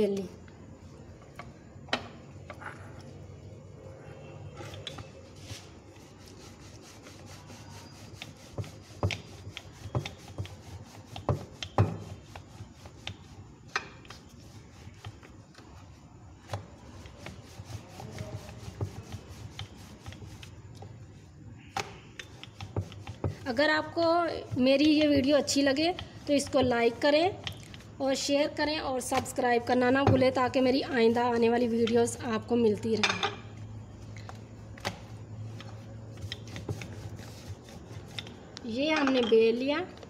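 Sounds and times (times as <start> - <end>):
rolling pin rolling dough: 4.5 - 32.7, 34.7 - 39.3.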